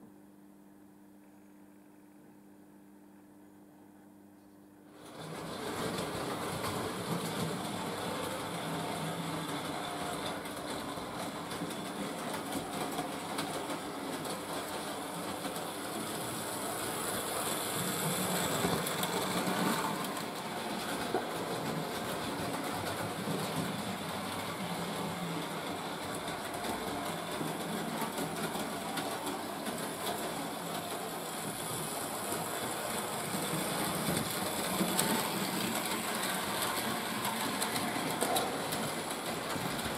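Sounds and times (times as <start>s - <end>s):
model train motors whirring: 5.0s - 39.9s.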